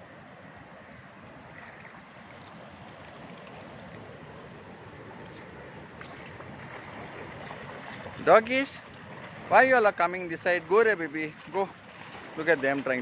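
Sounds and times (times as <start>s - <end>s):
sea surf washing on a beach: 0.0s - 13.0s.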